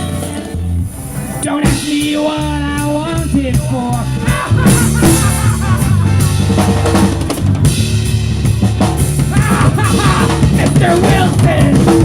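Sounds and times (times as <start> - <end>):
band playing instrumental: 0.0 - 12.0
bass line: 0.0 - 12.0
drum kit hits: 1.6 - 12.0.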